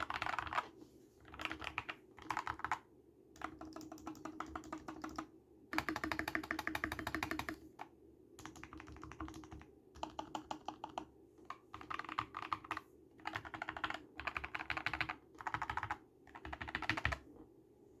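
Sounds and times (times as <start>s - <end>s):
mechanical keyboard typing: 0.0s - 2.8s, 3.4s - 5.2s, 5.8s - 7.6s, 8.4s - 17.2s.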